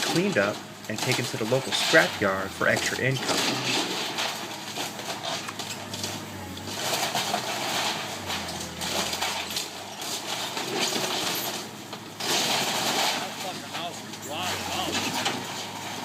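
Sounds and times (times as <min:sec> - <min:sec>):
excavator engine hum: 0:00.0 - 0:16.0
metal clattering and crunching: 0:00.0 - 0:16.0.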